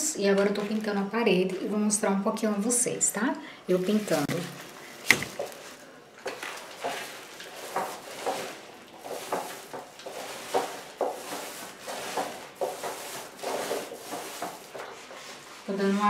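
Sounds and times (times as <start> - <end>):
paint roller rolling on wall: 3.1 - 16.0.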